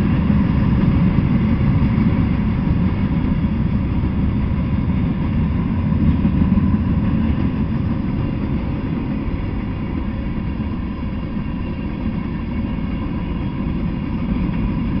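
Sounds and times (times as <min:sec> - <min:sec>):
freight cars rumbling on track: 0:00.0 - 0:15.0.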